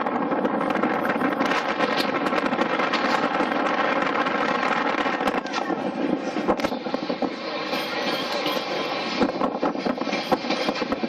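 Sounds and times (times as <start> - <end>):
train wheels rattling in tunnel: 0.0 - 11.0.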